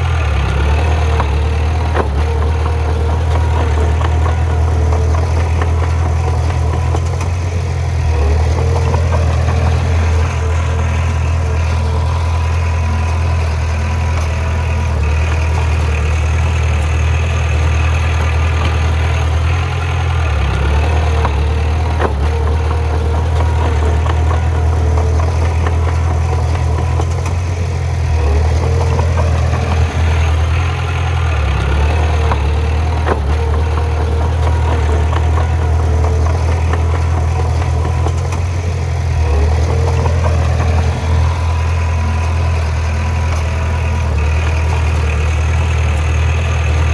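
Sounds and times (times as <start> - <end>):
bulldozer diesel engine drone: 0.0 - 46.9.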